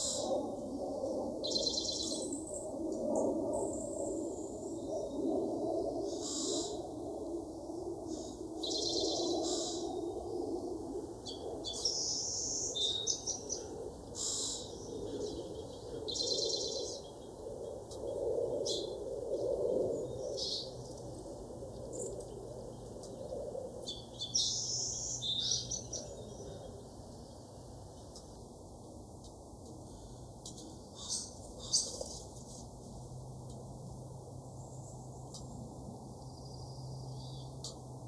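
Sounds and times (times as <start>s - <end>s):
songbirds chirping and trilling: 0.0s - 38.0s
steady low background noise: 0.0s - 38.0s.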